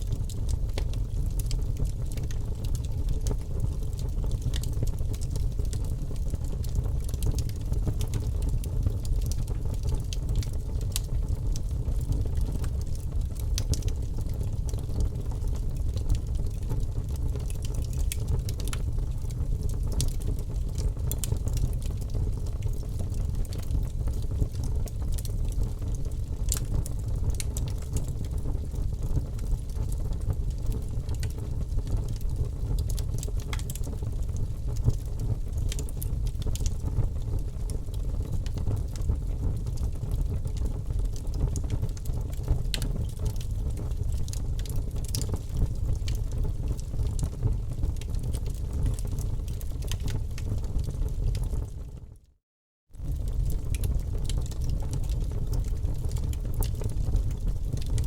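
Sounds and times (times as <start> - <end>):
campfire crackling and popping: 0.3 - 11.4, 12.0 - 51.8, 53.0 - 58.0.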